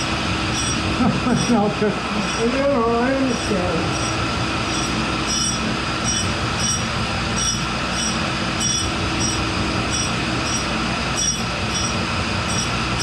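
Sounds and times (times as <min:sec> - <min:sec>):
grinder wheel grinding steel: 0:00.0 - 0:13.0.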